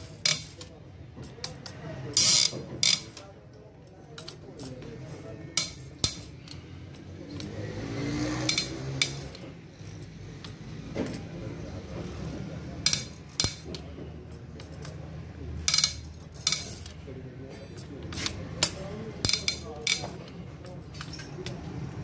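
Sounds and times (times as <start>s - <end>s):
metal tools clinking: 0.0s - 7.8s, 8.4s - 11.4s, 12.8s - 21.7s.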